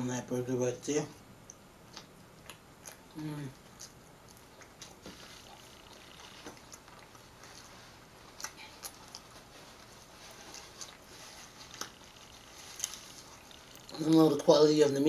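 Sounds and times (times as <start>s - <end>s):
person chewing food: 1.4s - 14.4s.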